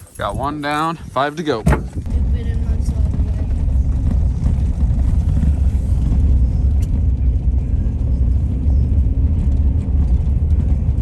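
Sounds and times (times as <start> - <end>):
vehicle driving rumble: 0.0 - 11.0.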